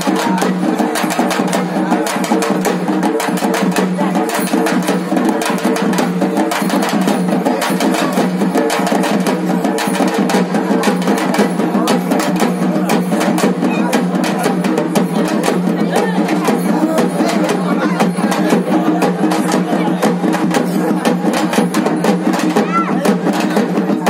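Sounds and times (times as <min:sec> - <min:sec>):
drums beaten fast: 0:00.0 - 0:24.0.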